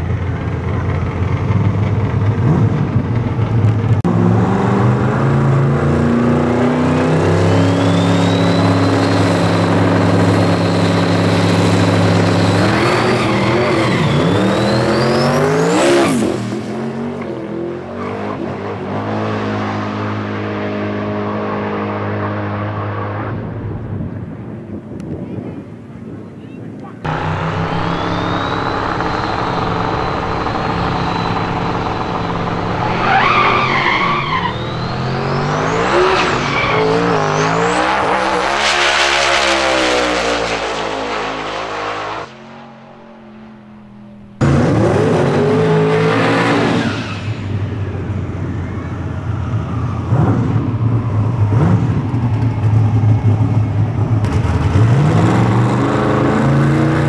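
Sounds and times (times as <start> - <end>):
drag car engine at full throttle: 0.0 - 25.2, 26.7 - 57.0.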